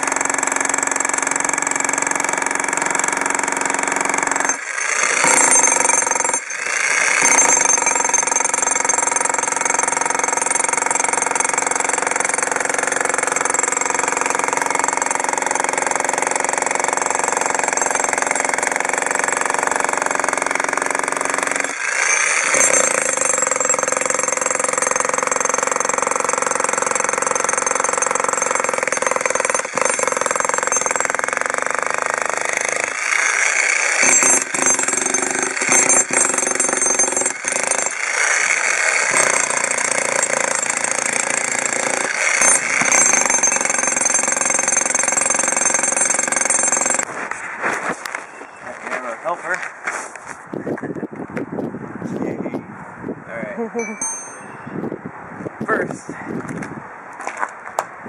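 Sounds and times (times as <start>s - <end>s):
demolition hammer breaking concrete: 0.0s - 47.1s.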